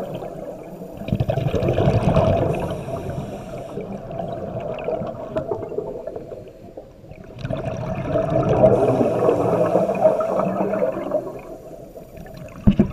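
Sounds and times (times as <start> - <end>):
underwater exhaust bubbles: 0.0 - 12.9.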